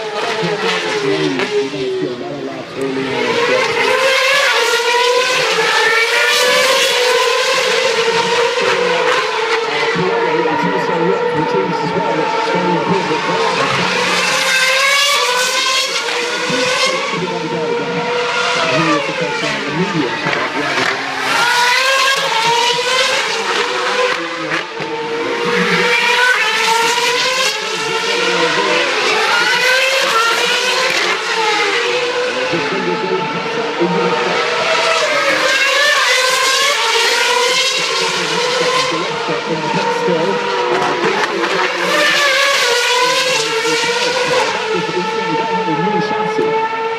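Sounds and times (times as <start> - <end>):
racing car engines at high revs: 0.0 - 46.9.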